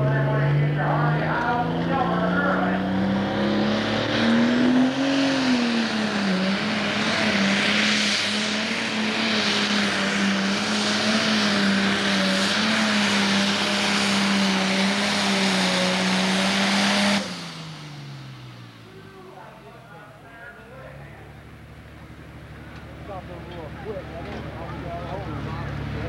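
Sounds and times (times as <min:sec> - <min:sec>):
diesel engine droning under load: 0:00.0 - 0:26.0.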